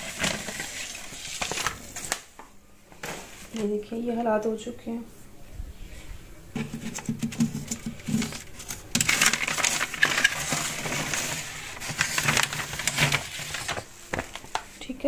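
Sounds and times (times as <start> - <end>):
sheet crinkling and rustling: 0.0 - 3.8, 6.6 - 14.9.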